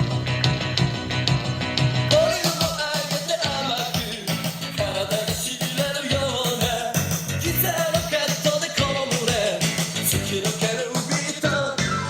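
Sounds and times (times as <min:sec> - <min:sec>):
pop song on car stereo: 0:00.0 - 0:12.0.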